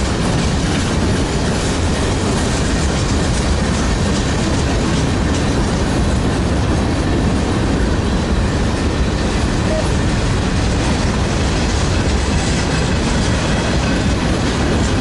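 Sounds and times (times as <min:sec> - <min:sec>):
rail joint clicks: 0:00.0 - 0:15.0
steel train wheels on rails: 0:00.0 - 0:15.0.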